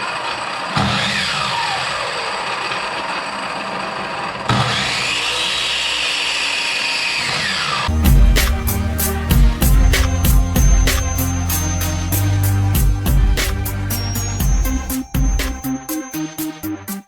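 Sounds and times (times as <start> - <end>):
chop saw motor whine: 0.0 - 15.5.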